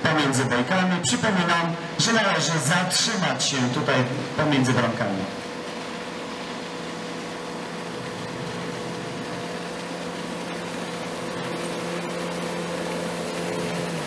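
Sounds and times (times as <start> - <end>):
motorboat engine running: 0.0 - 14.0.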